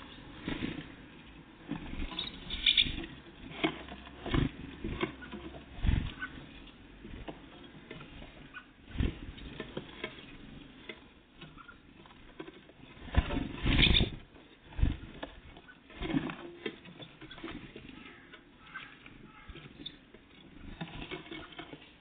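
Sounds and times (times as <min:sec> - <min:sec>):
birds pecking and scrabbling: 0:00.0 - 0:22.0
birds scuffling on feeder: 0:00.0 - 0:22.0.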